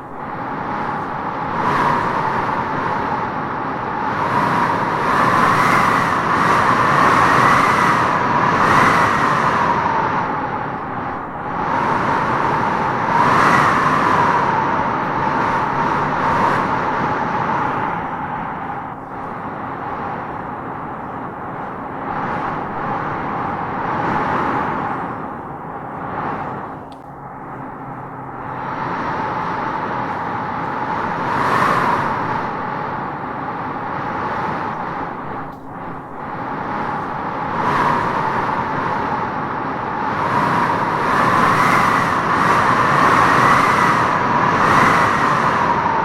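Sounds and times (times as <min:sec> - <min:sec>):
howling wind through trees: 0:00.0 - 0:46.0.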